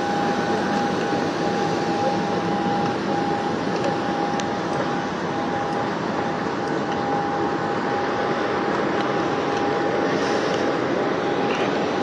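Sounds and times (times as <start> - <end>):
aircraft engine rushing: 0.0 - 12.0
high engine whine: 0.0 - 12.0.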